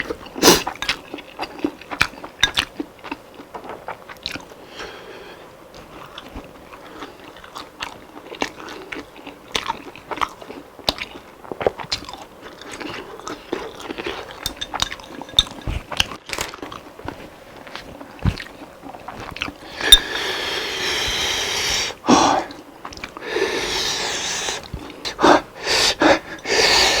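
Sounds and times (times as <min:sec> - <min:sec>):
crunching and chewing fried food: 0:00.0 - 0:27.0.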